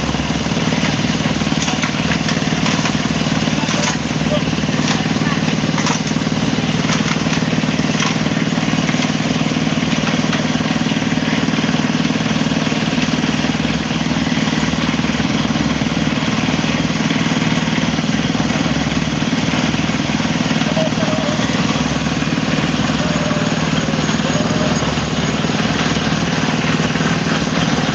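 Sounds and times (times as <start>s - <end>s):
concrete mixer engine running: 0.0s - 27.9s.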